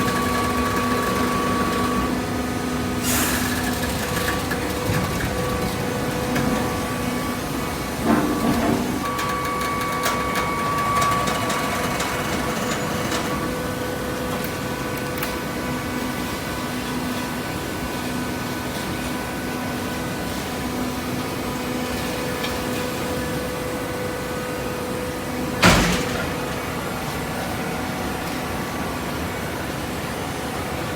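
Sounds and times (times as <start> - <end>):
baler motor and pump humming: 0.0 - 30.9.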